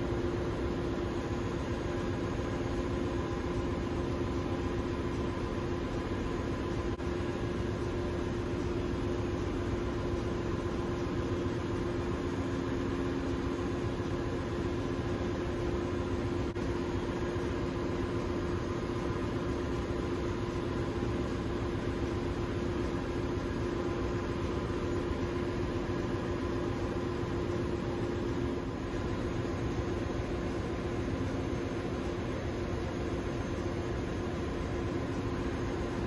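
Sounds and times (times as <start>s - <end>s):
engine-room machinery drone: 0.0s - 36.0s.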